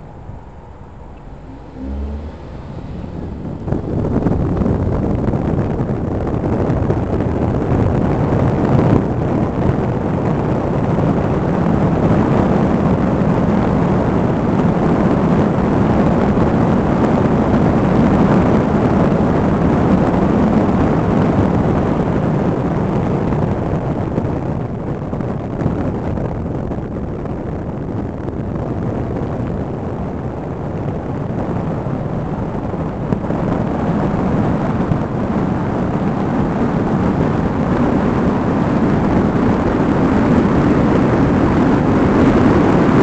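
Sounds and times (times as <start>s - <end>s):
vehicle road and wind noise: 0.0s - 43.0s.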